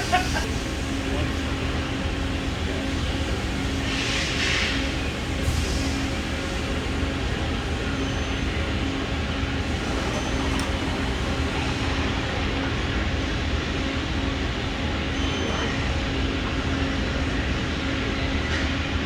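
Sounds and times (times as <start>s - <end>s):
industrial machinery humming: 0.0s - 18.5s.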